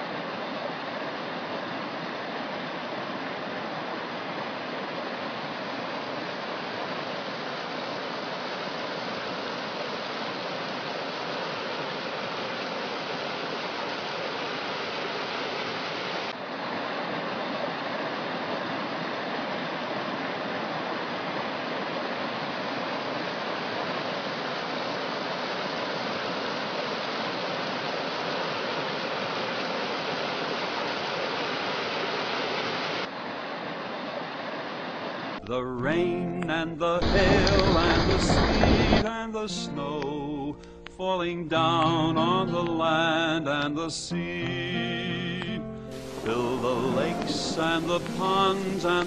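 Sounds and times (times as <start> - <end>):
rushing water hiss: 0.0 - 35.4, 36.0 - 49.0.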